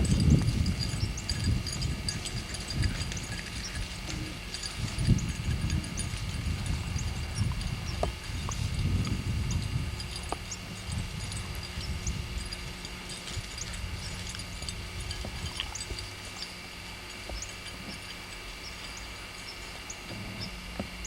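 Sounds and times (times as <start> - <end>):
low hum: 0.0 - 21.0
small ticks: 0.0 - 21.0.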